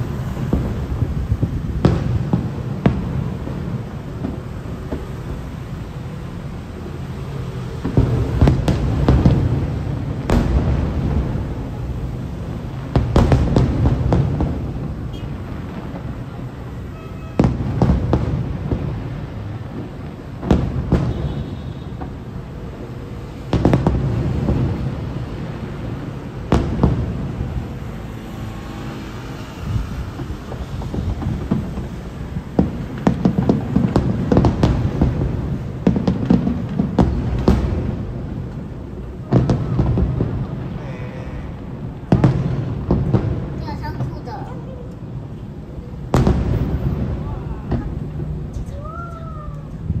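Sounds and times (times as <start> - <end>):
firework shells booming: 0.0 - 6.6, 7.2 - 28.4, 29.7 - 44.5, 45.1 - 50.0.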